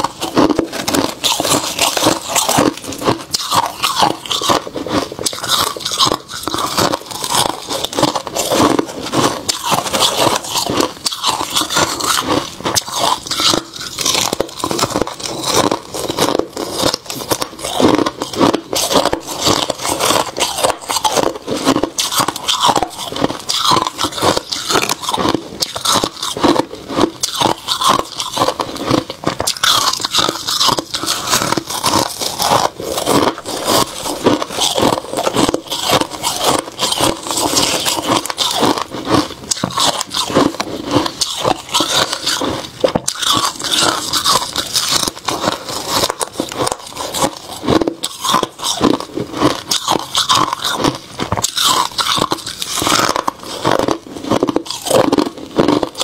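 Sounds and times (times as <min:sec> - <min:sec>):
frost being chewed crunching: 0:00.0 - 0:56.0.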